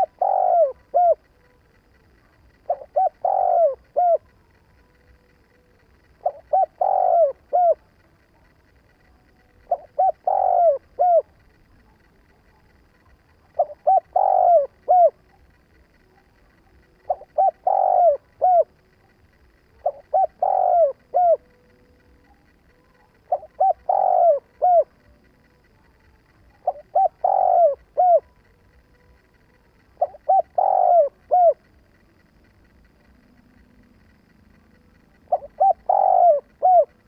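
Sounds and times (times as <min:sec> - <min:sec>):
dove cooing: 0:00.0 - 0:33.0, 0:33.8 - 0:37.0.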